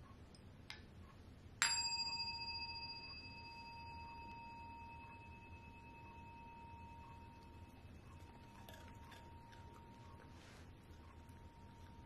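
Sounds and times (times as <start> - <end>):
bowl bell ringing: 1.6 - 12.0.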